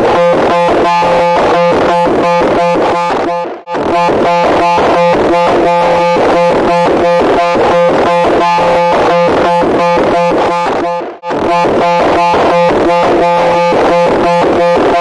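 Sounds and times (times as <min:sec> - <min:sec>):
harsh pulsing noise: 0:00.0 - 0:15.0.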